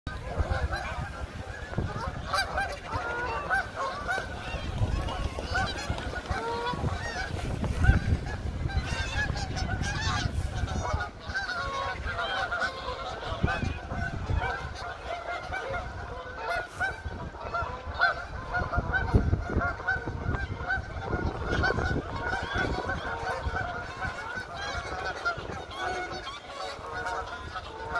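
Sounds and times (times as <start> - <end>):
geese honking: 0.1 - 27.9.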